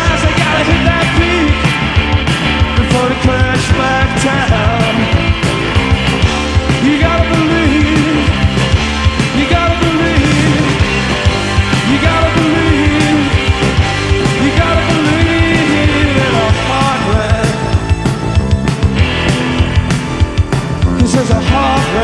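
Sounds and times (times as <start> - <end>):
drumbeat: 0.0 - 22.0
rock band playing live: 0.0 - 22.0.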